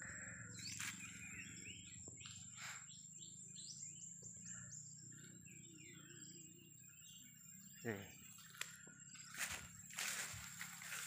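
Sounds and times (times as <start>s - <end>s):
bird chirps: 0.0s - 11.0s
birds calling faintly: 0.0s - 11.0s.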